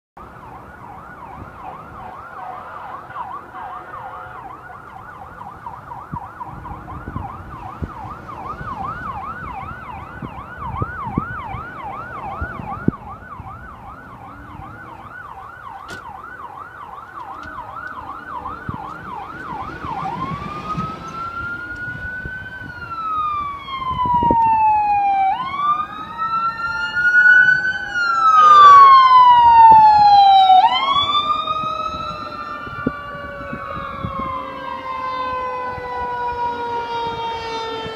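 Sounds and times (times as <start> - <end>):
emergency siren yelp and wail: 0.2 - 37.9
second siren: 0.2 - 37.9.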